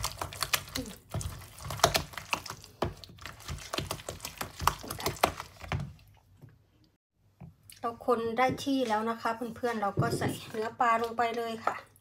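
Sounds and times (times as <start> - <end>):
wooden spoon beating thick paste: 0.0 - 6.6, 8.3 - 11.8.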